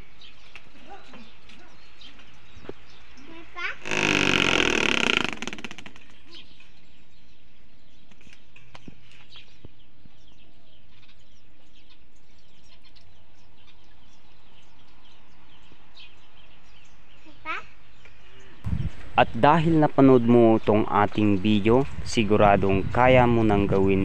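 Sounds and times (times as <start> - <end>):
small birds chirping: 0.0 - 22.2.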